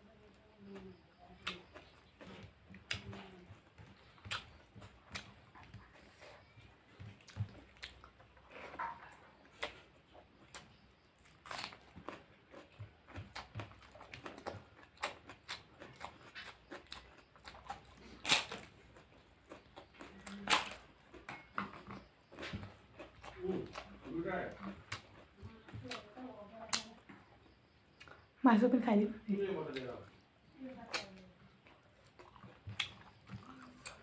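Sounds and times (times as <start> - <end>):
person chewing and crunching food: 0.2 - 28.4, 29.4 - 34.0.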